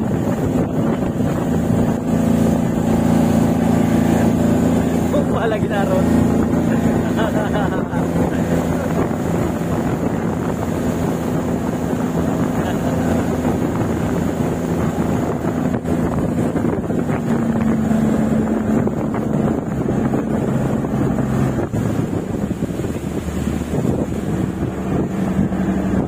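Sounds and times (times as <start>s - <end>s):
boat engine running: 0.0s - 26.0s
wind buffeting microphone: 0.0s - 26.0s.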